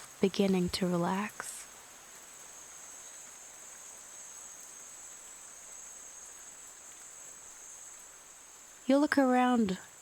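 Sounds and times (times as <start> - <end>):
insects chorus: 0.0 - 10.0
light rain hiss: 0.0 - 10.0.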